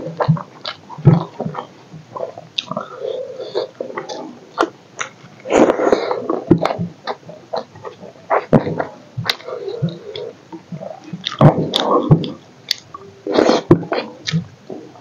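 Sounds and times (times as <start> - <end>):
wet chewing and lip-smacking: 0.2 - 2.9, 3.5 - 5.8, 6.5 - 14.5.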